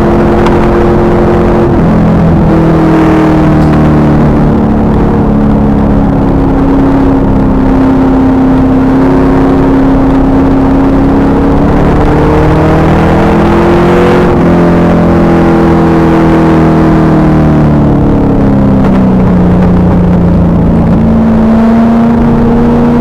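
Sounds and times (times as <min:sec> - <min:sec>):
car engine pulling hard: 0:00.0 - 0:23.0.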